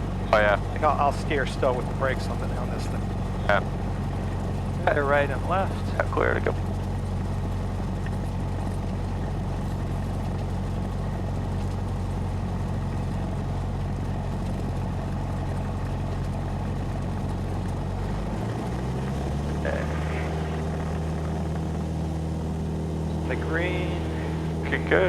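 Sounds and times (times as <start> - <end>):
aircraft engine and propeller: 0.0 - 25.0.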